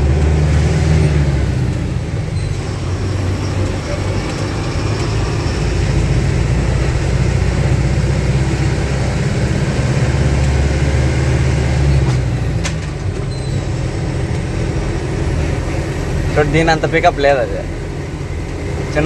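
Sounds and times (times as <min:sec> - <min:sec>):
diesel truck engine running: 0:00.0 - 0:19.0
road noise: 0:00.0 - 0:19.0.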